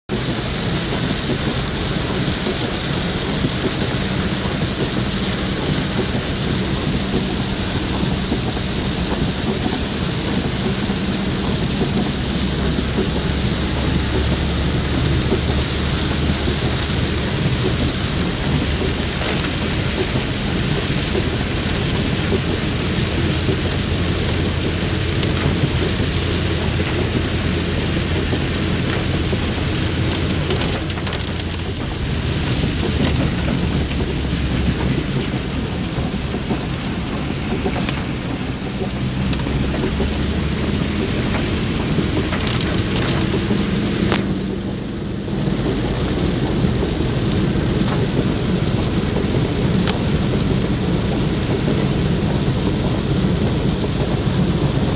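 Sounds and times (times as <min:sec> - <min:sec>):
heavy rain on a car: 0:00.1 - 0:54.9
low car engine hum: 0:00.1 - 0:54.9.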